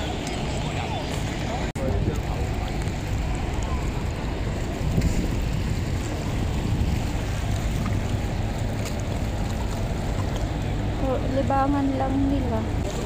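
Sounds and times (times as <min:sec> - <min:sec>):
water washing against rocks: 0:00.0 - 0:13.0
wind on microphone: 0:00.0 - 0:13.0.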